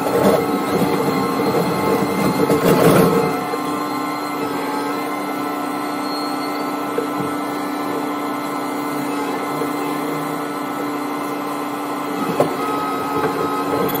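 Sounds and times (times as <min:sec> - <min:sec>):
heavy machinery humming: 0:00.0 - 0:14.0.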